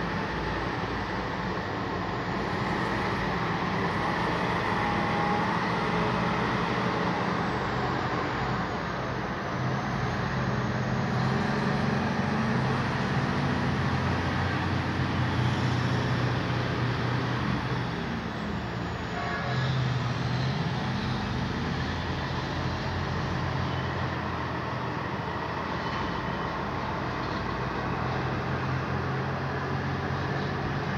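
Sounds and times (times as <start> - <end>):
truck engine drone: 0.0 - 30.9.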